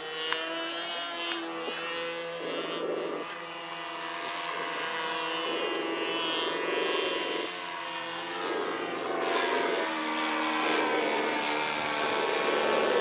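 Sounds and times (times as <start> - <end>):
model airplane engine droning: 0.0 - 13.0.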